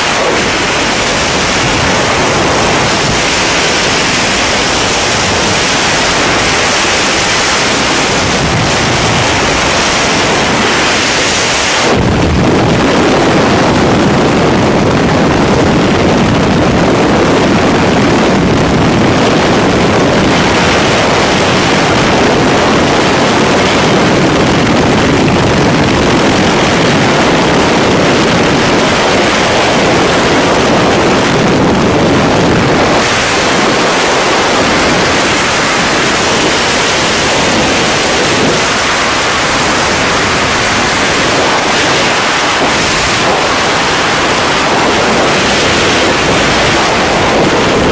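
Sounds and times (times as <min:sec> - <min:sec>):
wind roaring over microphone: 0:00.0 - 0:47.9.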